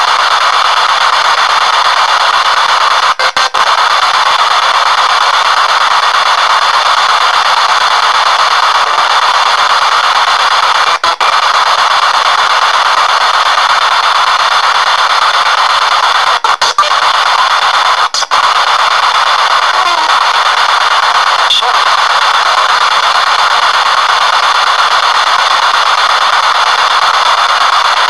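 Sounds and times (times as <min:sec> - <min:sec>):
loud radio static: 0:00.0 - 0:28.0.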